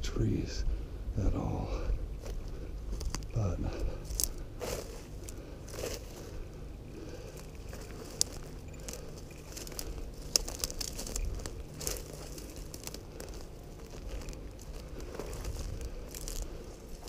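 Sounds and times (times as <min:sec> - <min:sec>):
footsteps on dry brush and gravel: 0:01.2 - 0:17.0.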